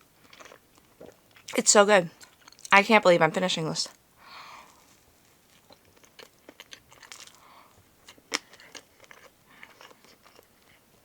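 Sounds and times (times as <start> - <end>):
chewing cupcake: 0.2 - 2.7, 4.6 - 11.0.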